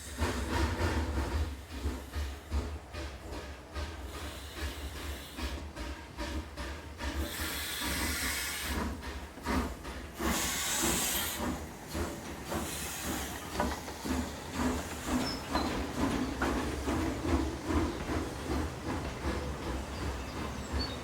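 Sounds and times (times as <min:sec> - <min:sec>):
steam hissing: 0:00.0 - 0:21.0
steam locomotive chuffing: 0:00.0 - 0:21.0.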